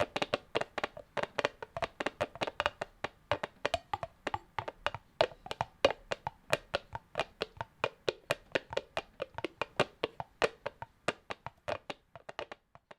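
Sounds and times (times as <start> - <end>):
imitation horse hoofbeats: 0.0 - 12.9.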